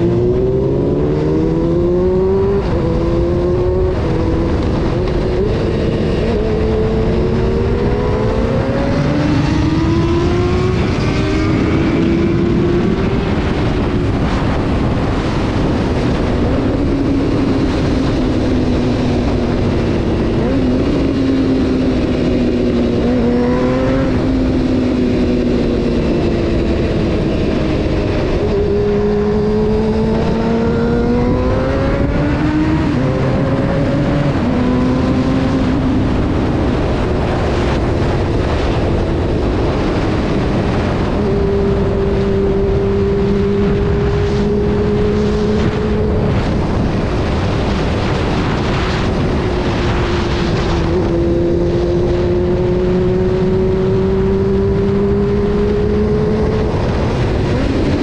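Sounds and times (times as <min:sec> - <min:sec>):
motorcycle engine revving: 0:00.0 - 0:58.0
wind and road noise: 0:00.0 - 0:58.0.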